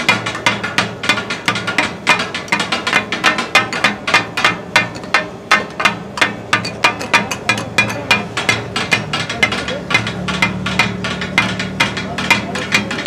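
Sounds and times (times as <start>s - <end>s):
metal spatulas clanging on griddle: 0.0s - 13.0s.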